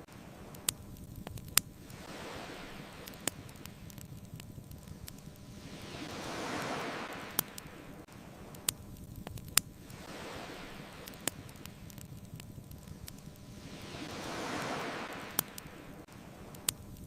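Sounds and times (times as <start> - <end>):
bonfire crackles: 0.0 - 17.0
ocean waves washing in: 0.0 - 17.0.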